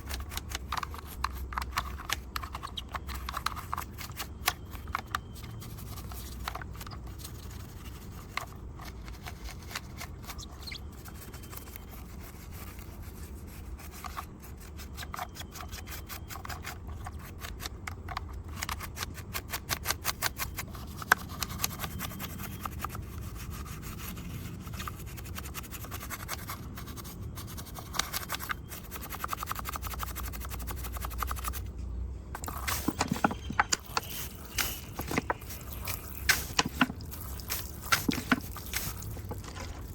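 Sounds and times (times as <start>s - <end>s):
scrubbing on a model car: 0.0s - 31.7s, 32.4s - 39.9s.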